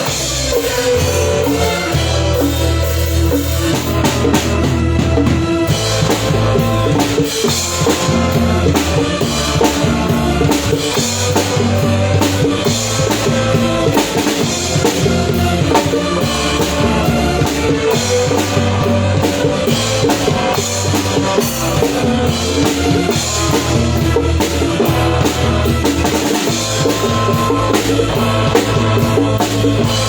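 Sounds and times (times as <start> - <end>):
drum kit: 0.0 - 30.0
live band playing: 0.0 - 30.0.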